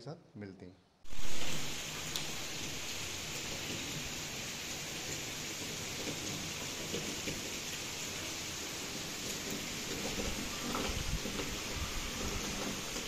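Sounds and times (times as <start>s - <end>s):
steady rain falling: 1.1s - 13.0s.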